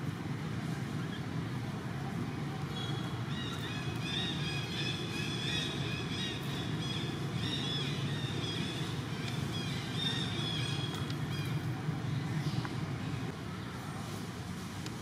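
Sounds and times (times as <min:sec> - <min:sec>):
low rumble of distant traffic: 0:00.0 - 0:15.0.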